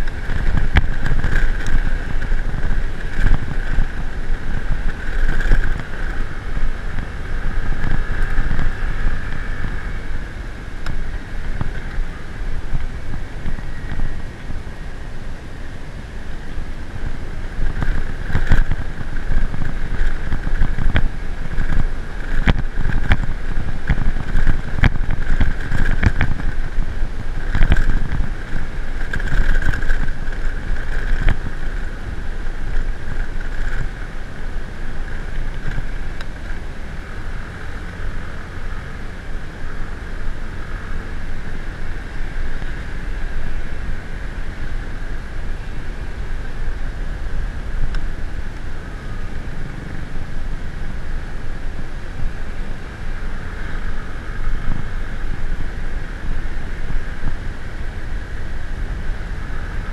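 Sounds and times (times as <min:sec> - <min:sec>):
vehicle engine drone: 0:00.0 - 0:59.9
wind rushing over microphone: 0:00.0 - 0:59.9.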